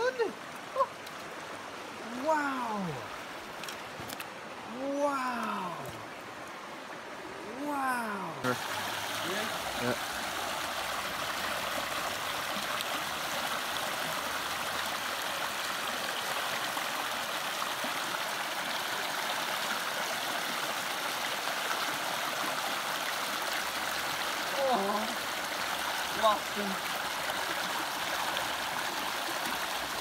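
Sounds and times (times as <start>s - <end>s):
creek flowing over stones: 0.0s - 30.0s.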